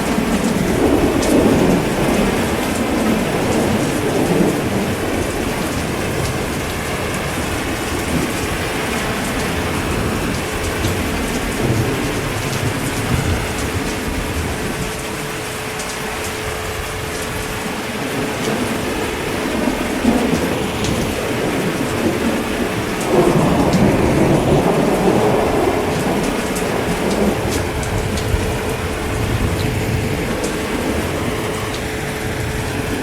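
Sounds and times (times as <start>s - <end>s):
heavy rain pattering: 0.0s - 33.0s
low rolling thunder: 0.0s - 33.0s.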